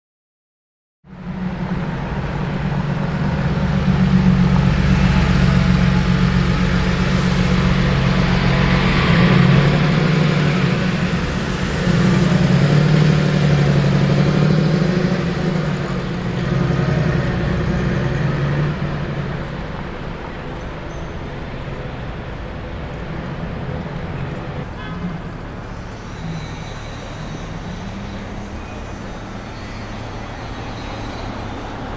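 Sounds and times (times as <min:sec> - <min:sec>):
vehicle engine running: 0:01.1 - 0:31.9.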